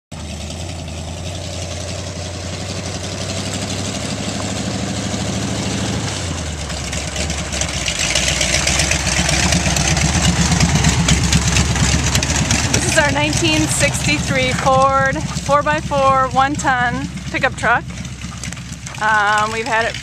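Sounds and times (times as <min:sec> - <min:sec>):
pickup engine idling: 0:00.1 - 0:20.0.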